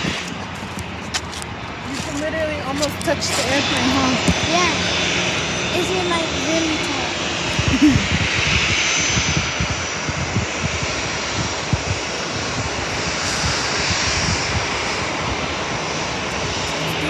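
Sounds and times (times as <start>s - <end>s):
jet flying low overhead: 0.0s - 17.0s.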